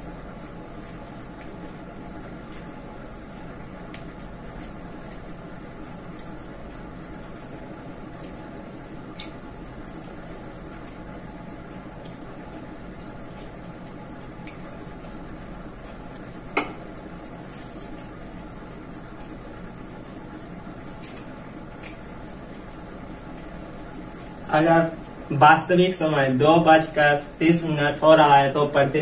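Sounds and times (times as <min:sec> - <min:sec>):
insect trilling: 0:04.4 - 0:29.0.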